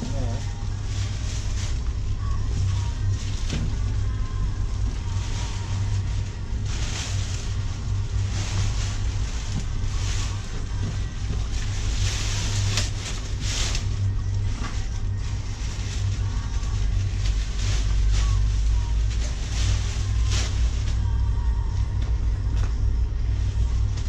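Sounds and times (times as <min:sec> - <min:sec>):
fabric cover rustling: 0:00.0 - 0:21.6
low rumble: 0:00.0 - 0:24.0.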